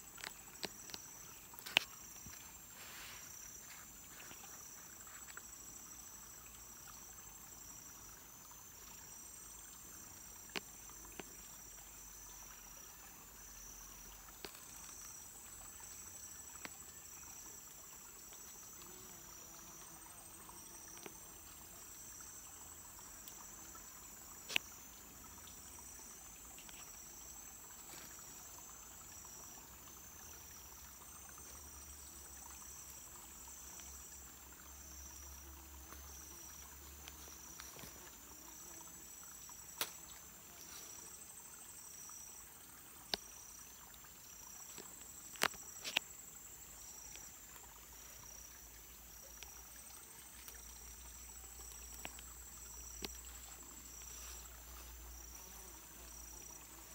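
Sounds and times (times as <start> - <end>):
insects chirping: 0.0 - 56.9.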